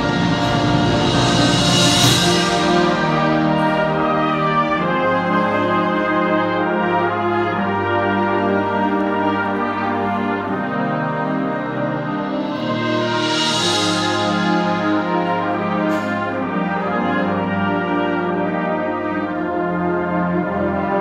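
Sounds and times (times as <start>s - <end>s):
concert band playing chords: 0.0s - 21.0s.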